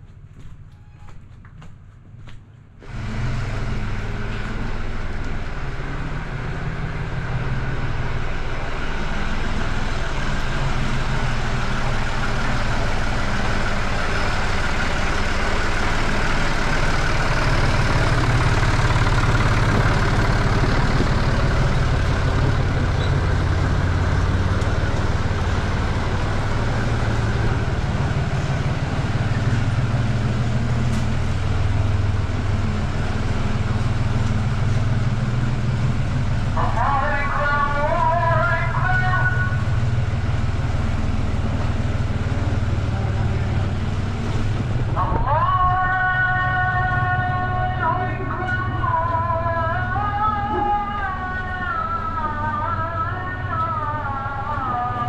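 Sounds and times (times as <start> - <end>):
tractor diesel engine running: 2.0 - 55.0.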